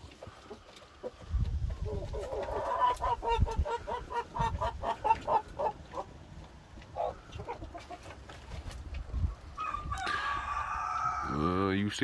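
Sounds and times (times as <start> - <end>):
chickens clucking: 0.0 - 11.6.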